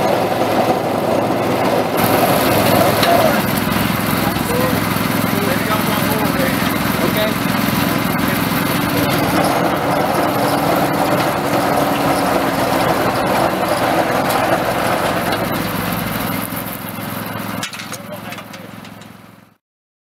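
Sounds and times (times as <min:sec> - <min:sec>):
small engine running: 0:00.0 - 0:19.6.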